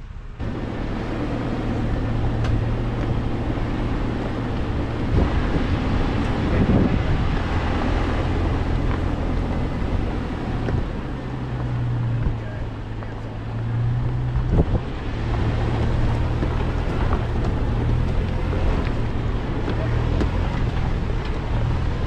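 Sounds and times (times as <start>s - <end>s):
car engine drone: 0.0s - 22.0s
tires on gravel road noise: 0.0s - 22.0s
wind noise on microphone: 0.4s - 22.0s.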